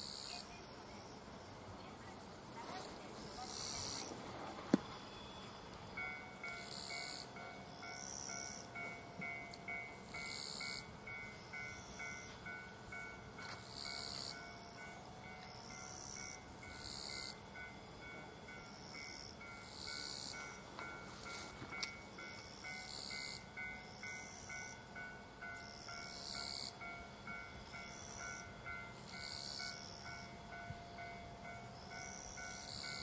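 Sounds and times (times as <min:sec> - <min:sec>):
level-crossing bell ringing: 0:04.9 - 0:33.0.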